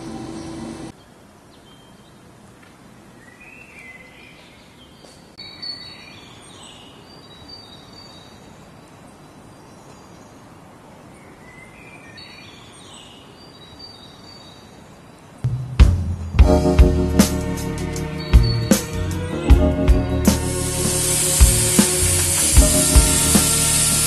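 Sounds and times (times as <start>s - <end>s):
faint outdoor background noise: 0.0s - 24.0s
songbird chirping: 0.0s - 24.0s.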